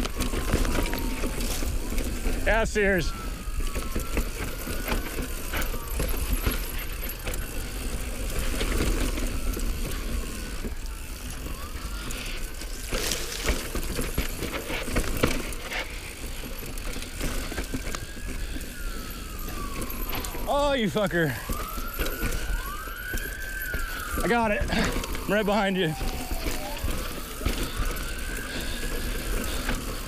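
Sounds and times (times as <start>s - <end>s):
bike knocking and rattling: 0.0s - 30.0s
bike tyres over dirt and stones: 0.0s - 30.0s.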